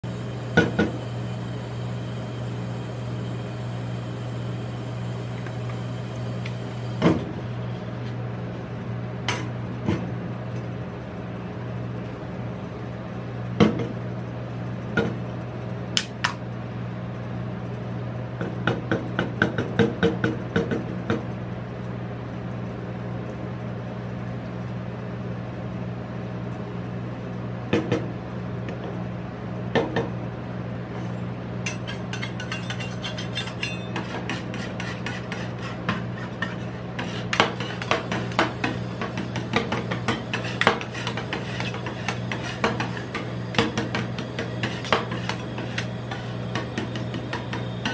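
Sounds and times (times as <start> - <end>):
refrigeration unit humming: 0.0 - 47.9.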